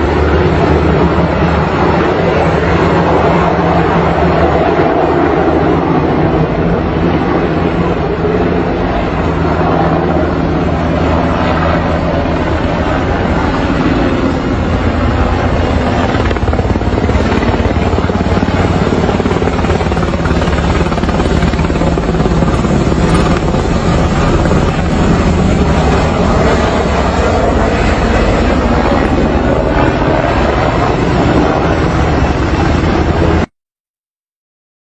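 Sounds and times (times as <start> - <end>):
helicopter engine and rotors: 0.0 - 33.5.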